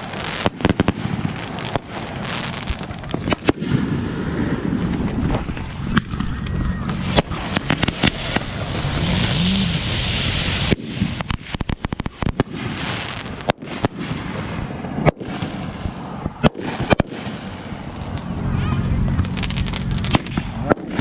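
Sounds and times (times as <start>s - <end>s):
fireworks bangs: 0.0s - 21.0s
fireworks crackling and popping: 0.0s - 21.0s.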